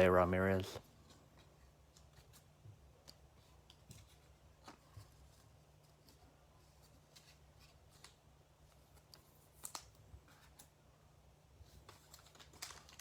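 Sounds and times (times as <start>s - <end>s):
trading cards rustling and clicking: 0.5s - 10.8s, 11.6s - 13.0s.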